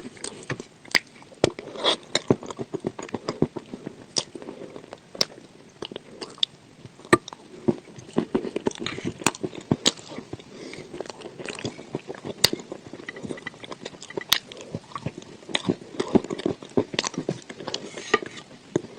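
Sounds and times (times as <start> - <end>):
chewing crunchy clay: 0.0 - 18.9.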